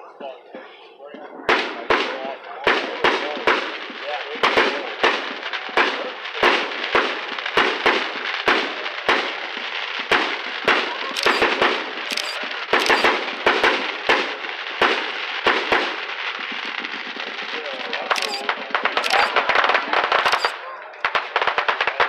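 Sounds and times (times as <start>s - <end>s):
fireworks exploding: 1.5s - 22.0s.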